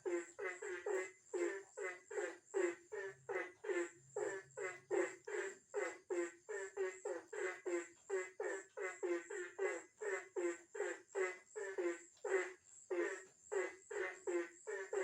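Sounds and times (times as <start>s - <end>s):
frogs croaking: 0.0s - 15.0s.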